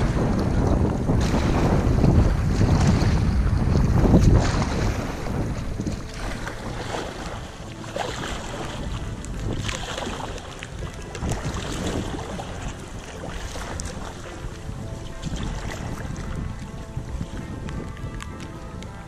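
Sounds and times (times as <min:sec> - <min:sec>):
canoe paddle strokes: 0:00.0 - 0:19.0
water splashing around hull: 0:00.0 - 0:19.0
wind rumbling on microphone: 0:00.0 - 0:19.0.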